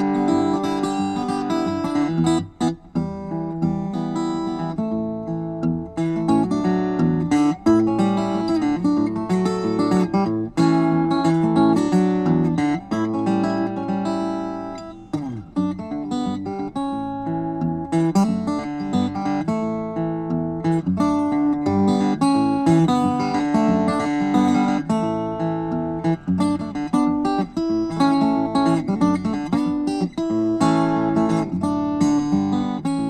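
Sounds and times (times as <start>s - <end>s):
acoustic guitar playing: 0.0s - 33.0s.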